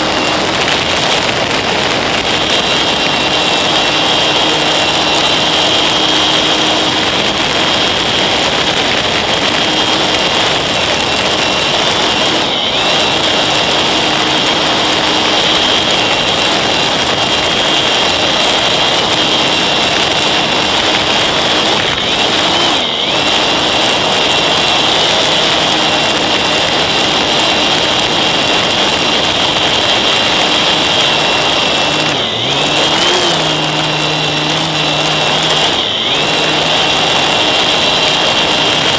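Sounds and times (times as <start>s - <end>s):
electric motor propeller whine: 0.0s - 38.9s
wind rushing: 0.0s - 38.9s.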